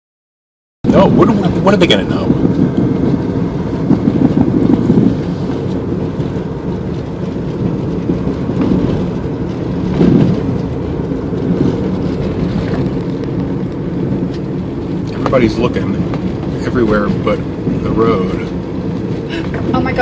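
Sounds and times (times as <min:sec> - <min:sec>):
car interior road and engine rumble: 0:00.8 - 0:20.0.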